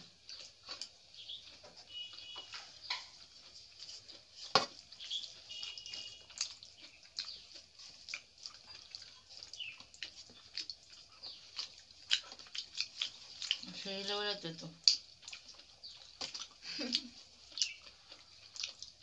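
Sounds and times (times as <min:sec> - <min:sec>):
wet clicks and smacks of eating: 0:00.0 - 0:19.0.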